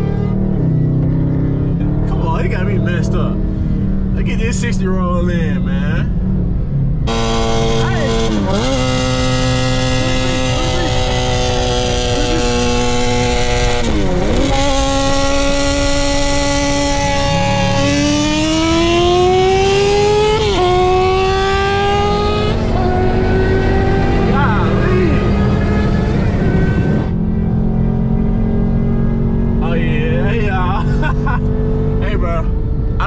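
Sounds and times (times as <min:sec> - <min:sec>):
motorcycle at full throttle: 0:00.0 - 0:04.8, 0:05.4 - 0:33.0
car engine at full throttle: 0:00.0 - 0:33.0.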